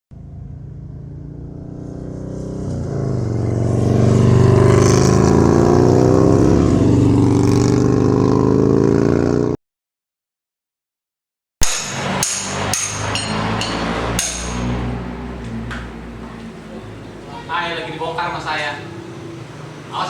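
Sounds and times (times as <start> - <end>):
engine running and revving: 0.1 - 9.6, 11.8 - 20.0.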